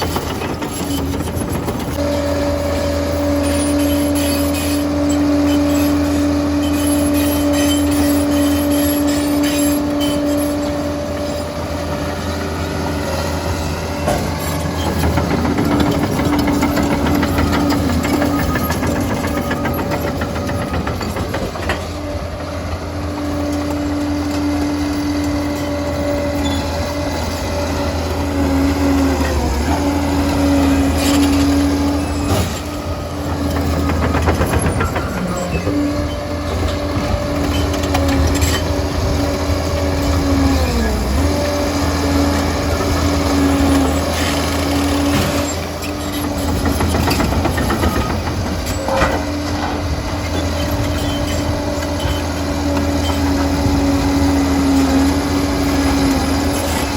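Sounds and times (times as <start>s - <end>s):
dozer engine rumble: 0.0s - 56.9s.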